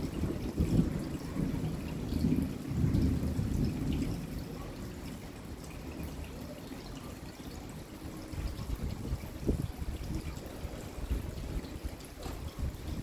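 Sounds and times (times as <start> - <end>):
rain falling: 0.0 - 13.0
water pouring and dripping: 0.0 - 13.0.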